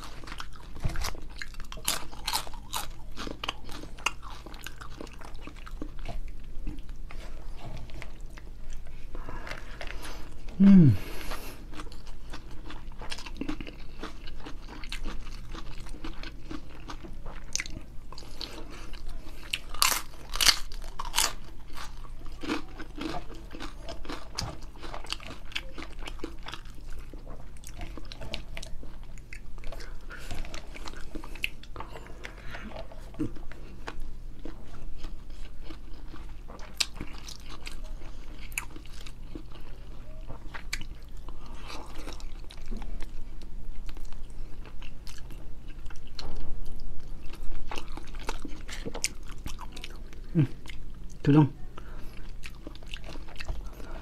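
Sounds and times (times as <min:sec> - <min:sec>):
close chewing and crunching: 0:00.0 - 0:54.0.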